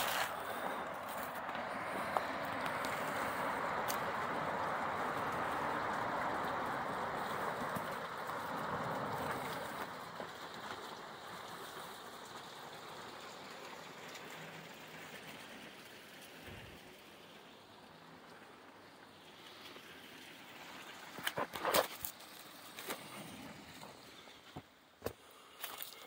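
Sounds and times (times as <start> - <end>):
passing car: 0.0 - 24.5.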